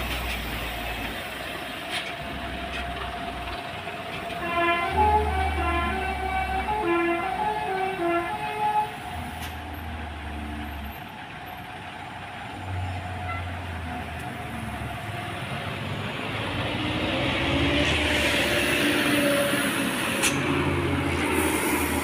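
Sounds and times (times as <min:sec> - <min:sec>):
road noise: 0:00.0 - 0:22.0
truck diesel engine droning: 0:00.0 - 0:22.0.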